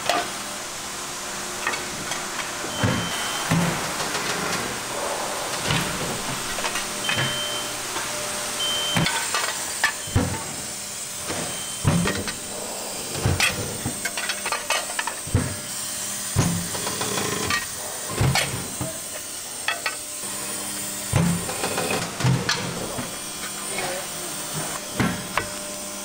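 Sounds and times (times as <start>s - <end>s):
machine hiss: 0.0s - 23.4s.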